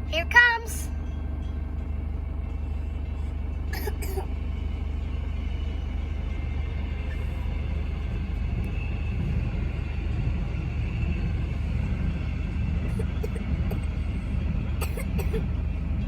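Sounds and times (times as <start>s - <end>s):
train passing with low rumble: 0.0s - 16.0s.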